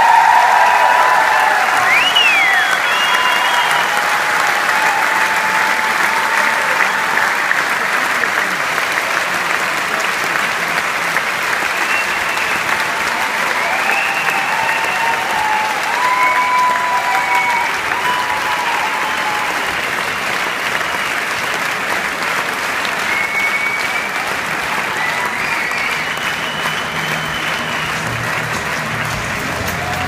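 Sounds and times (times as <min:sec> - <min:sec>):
audience applauding: 0:00.0 - 0:30.0
audience cheering: 0:00.0 - 0:30.0.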